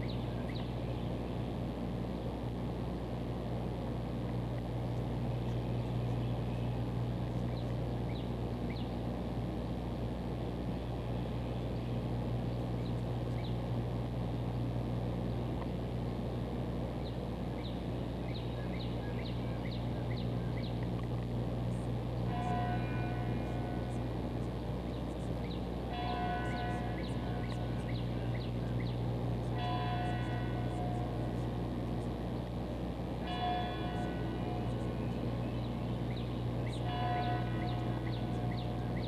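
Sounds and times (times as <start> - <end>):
city street hum: 0.0 - 39.0.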